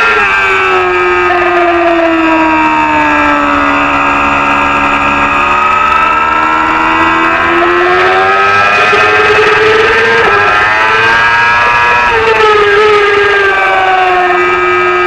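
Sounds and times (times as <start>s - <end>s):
racing motorcycle engine: 0.0s - 15.0s.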